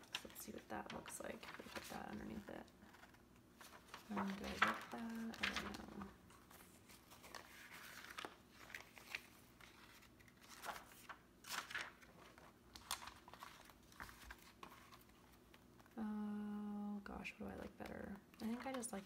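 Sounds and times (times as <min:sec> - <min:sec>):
rustling of thin plastic sheets: 0:00.0 - 0:16.0.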